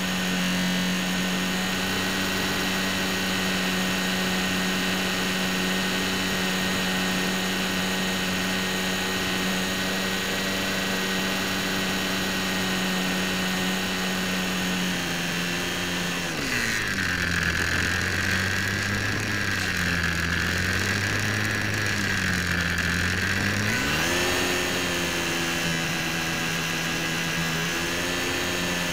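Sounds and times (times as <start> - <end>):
model plane motor whining: 0.0 - 28.9.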